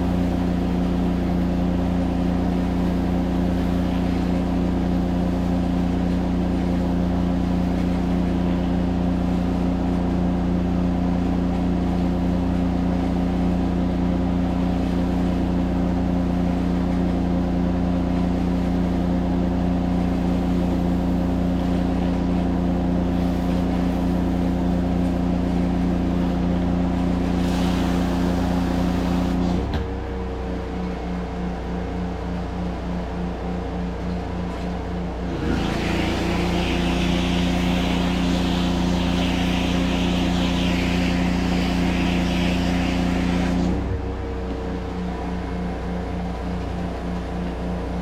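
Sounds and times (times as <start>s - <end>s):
pressure washer engine running: 0.0s - 16.9s, 19.3s - 31.4s, 34.5s - 47.8s.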